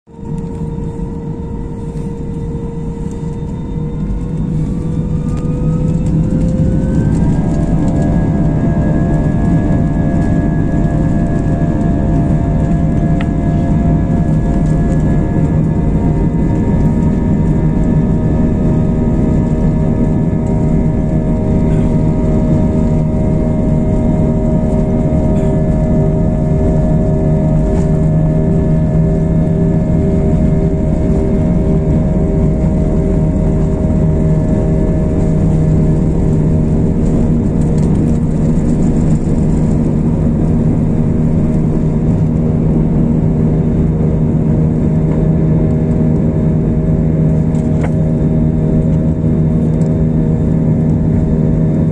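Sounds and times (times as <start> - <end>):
jet engines drone from cabin: 0.1 - 51.9.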